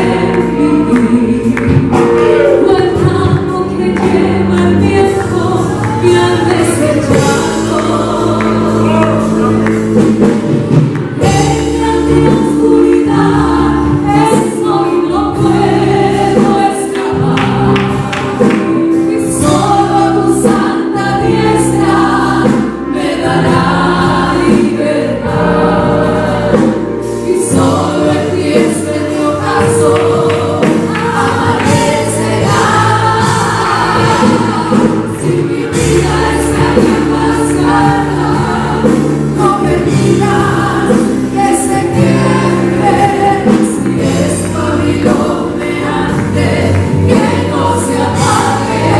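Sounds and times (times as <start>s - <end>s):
band with guitar and beat: 0.0s - 48.9s
women singing worship song: 0.0s - 48.9s.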